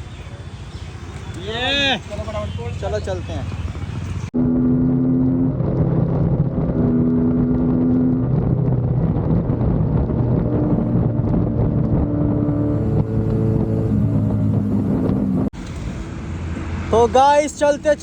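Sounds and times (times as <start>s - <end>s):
wind buffeting microphone: 0.0s - 16.9s
motorcycle engine droning: 0.0s - 18.0s.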